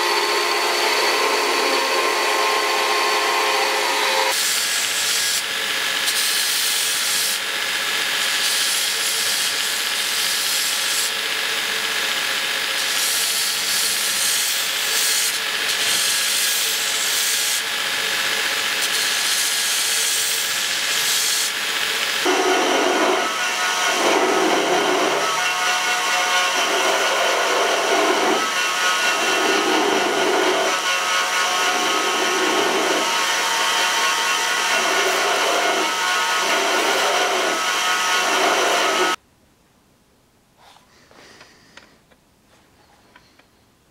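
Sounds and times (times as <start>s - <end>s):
belt grinder grinding steel: 0.0s - 39.2s.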